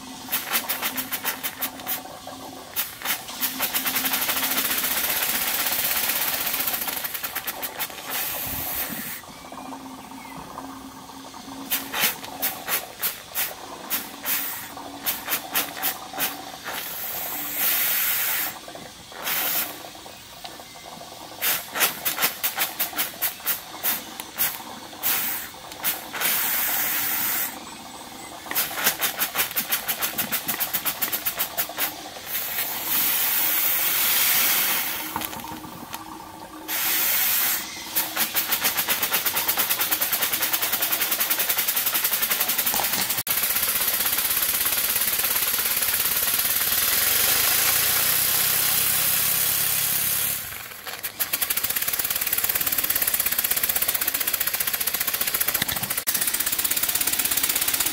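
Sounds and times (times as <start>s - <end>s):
steam engine exhaust chuffing: 0.0s - 9.3s, 11.0s - 57.9s
steady steam hiss: 0.0s - 9.4s, 10.8s - 54.1s.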